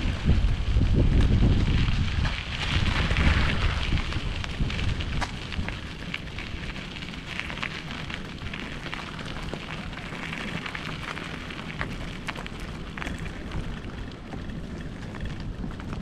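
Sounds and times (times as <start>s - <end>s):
runner's footfalls on trail: 0.0s - 14.4s
wind buffeting microphone: 0.0s - 16.0s.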